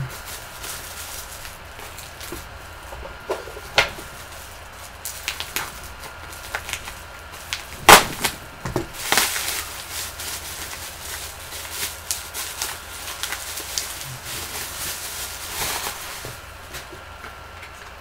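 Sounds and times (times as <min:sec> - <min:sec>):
card packaging crinkling: 0:00.0 - 0:17.3.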